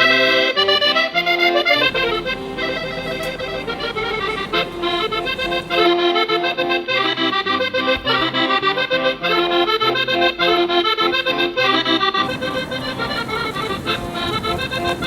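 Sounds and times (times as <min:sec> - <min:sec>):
accordion playing folk dance tune: 0:00.0 - 0:15.0.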